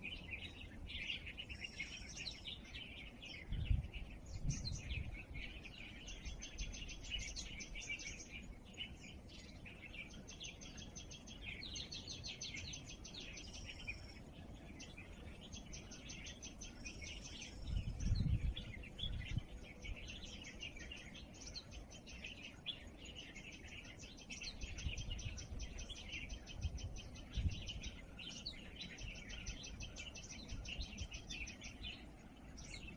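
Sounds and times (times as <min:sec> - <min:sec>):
birds chirping and trilling: 0:00.0 - 0:32.9.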